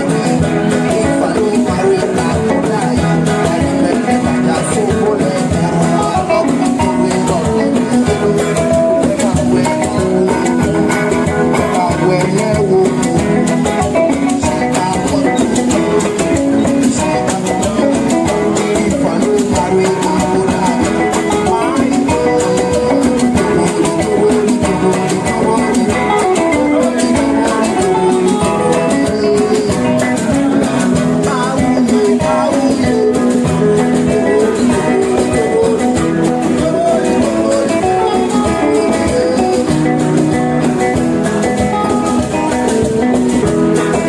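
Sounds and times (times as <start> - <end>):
person singing: 0.0 - 44.0
plucked string instrument melody: 0.0 - 44.0
steady percussion: 0.0 - 44.0.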